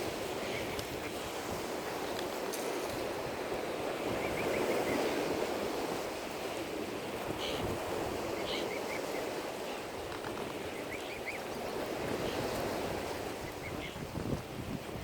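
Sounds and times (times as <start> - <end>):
lake water washing: 0.0 - 15.0
wind: 0.0 - 15.0.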